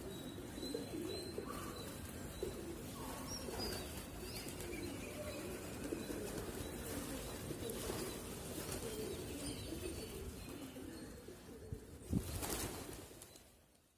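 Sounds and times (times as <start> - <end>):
pigeons cooing: 0.0 - 13.1.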